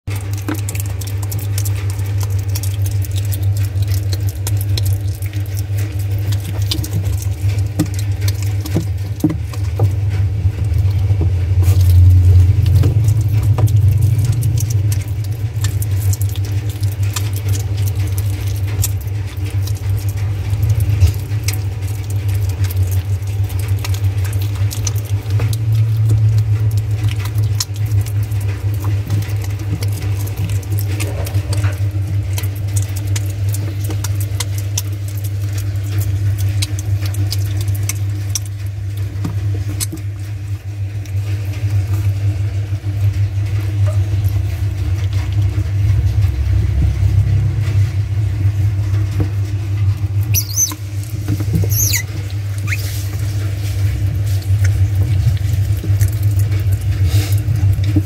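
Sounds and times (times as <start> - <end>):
steady low hum: 0.1 - 58.0.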